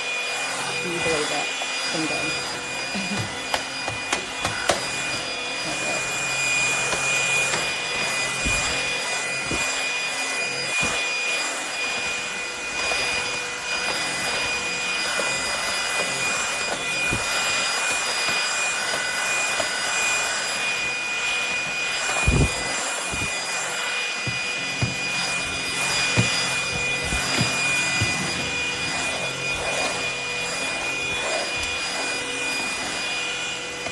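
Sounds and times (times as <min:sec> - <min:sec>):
stick vacuum motor whining: 0:00.0 - 0:33.9.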